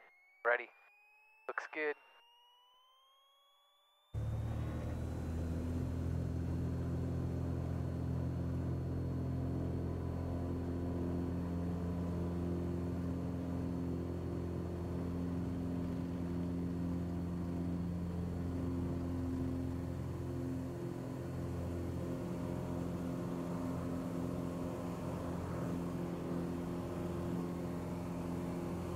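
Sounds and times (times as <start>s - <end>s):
propeller plane engine drone: 4.2s - 28.9s.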